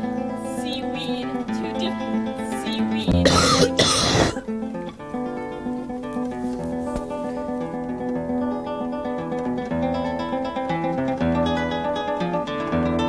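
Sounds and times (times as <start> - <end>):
lute playing picked notes: 0.0 - 13.0.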